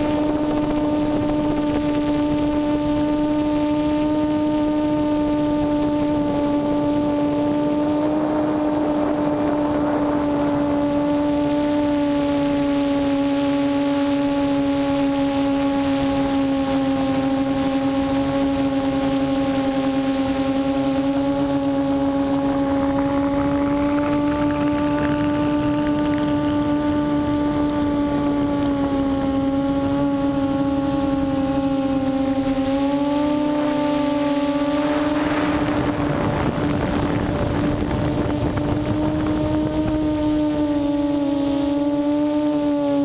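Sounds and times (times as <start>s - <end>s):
quadcopter motors humming: 0.0s - 43.0s.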